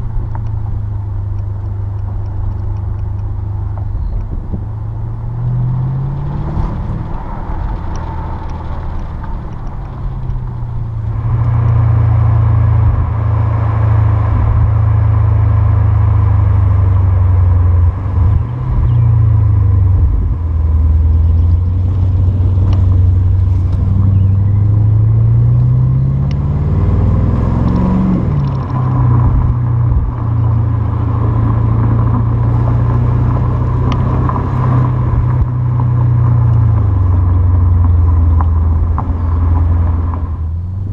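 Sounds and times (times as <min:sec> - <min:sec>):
car exhaust drone: 0:00.0 - 0:40.9.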